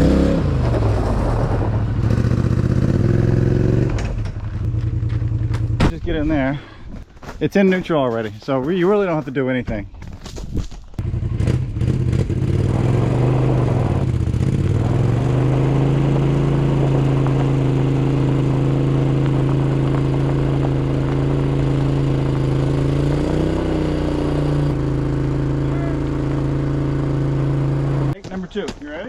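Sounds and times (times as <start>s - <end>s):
engine running: 0.0s - 6.6s, 11.0s - 28.7s.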